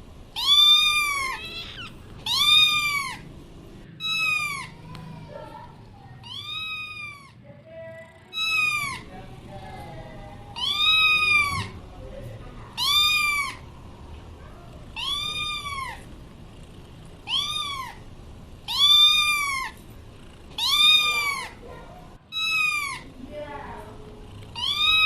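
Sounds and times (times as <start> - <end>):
cat meowing: 0.3 - 3.3, 3.9 - 11.9, 12.6 - 13.8, 14.4 - 16.2, 17.2 - 19.8, 20.5 - 23.6, 24.5 - 25.0.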